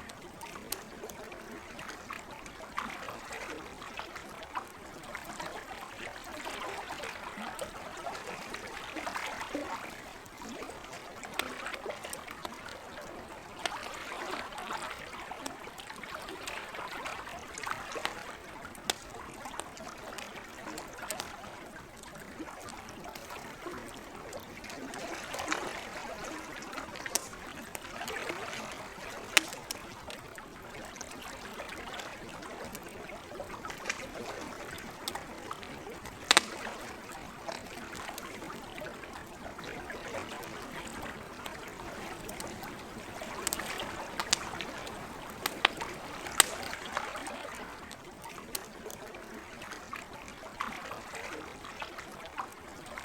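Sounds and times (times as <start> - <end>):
campfire crackling and popping: 0.0 - 49.9
lake water lapping: 0.0 - 53.0.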